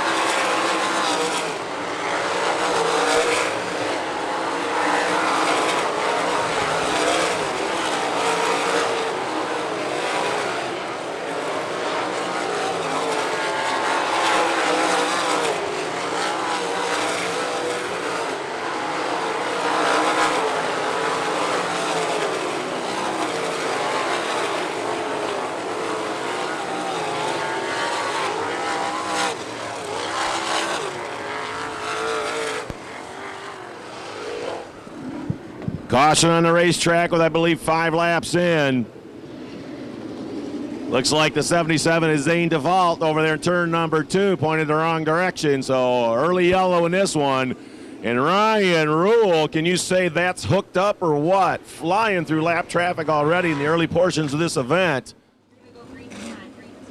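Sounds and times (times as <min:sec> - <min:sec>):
racing car engines: 0:00.0 - 0:56.9.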